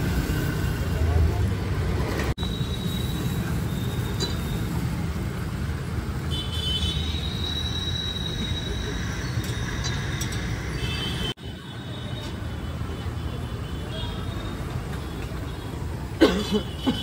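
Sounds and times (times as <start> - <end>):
street traffic rumbling: 0.0 - 17.0.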